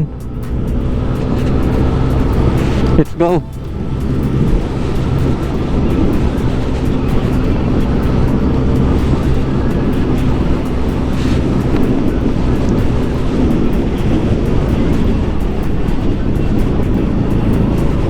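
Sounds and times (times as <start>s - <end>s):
road and wind noise: 0.0s - 18.0s
scooter engine running: 0.0s - 18.0s.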